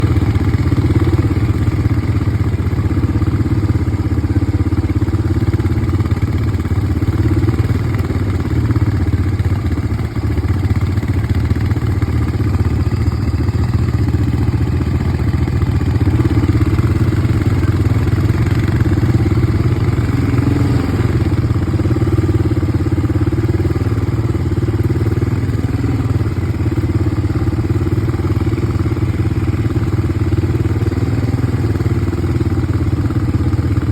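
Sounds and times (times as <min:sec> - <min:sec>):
quad bike engine running: 0:00.0 - 0:33.9.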